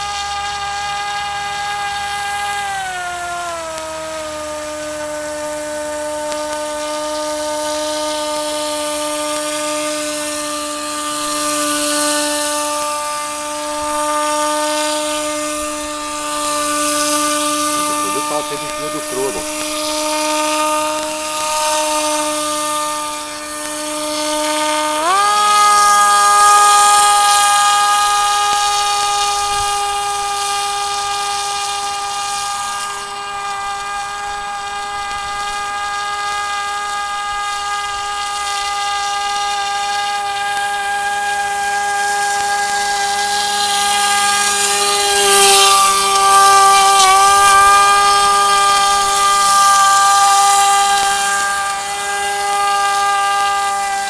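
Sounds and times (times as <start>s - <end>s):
model airboat motor whining: 0.0s - 54.0s.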